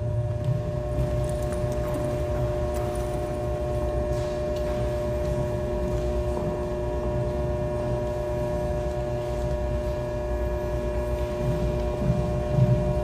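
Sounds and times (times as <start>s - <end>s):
steady pitched hum: 0.0s - 13.0s.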